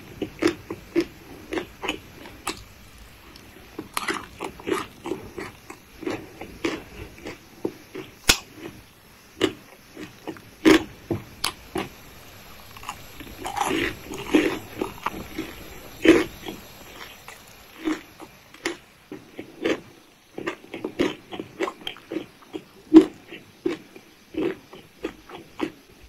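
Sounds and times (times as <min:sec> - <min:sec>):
crisp chewing crunches: 0:00.2 - 0:25.9.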